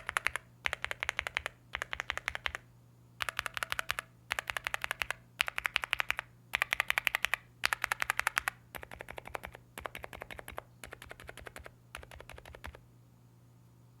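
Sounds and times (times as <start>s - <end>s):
mechanical keyboard clacking: 0.0s - 2.6s, 3.2s - 12.8s.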